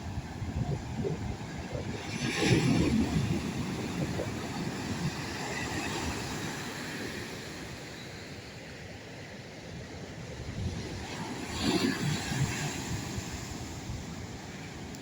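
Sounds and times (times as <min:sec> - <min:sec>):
wind rumbling on microphone: 0:00.0 - 0:08.6, 0:09.8 - 0:15.0
surf breaking on a beach: 0:00.0 - 0:15.0.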